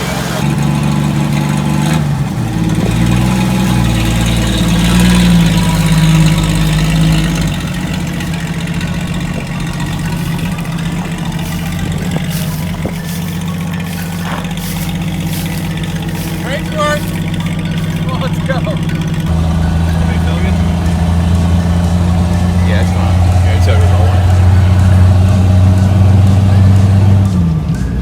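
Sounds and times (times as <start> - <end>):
straight-six engine running: 0.0 - 28.0.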